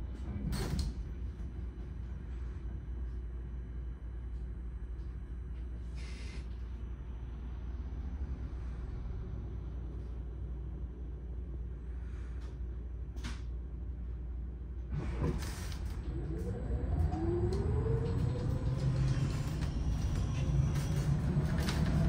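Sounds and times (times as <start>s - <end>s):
bus interior rumble: 0.0s - 22.0s.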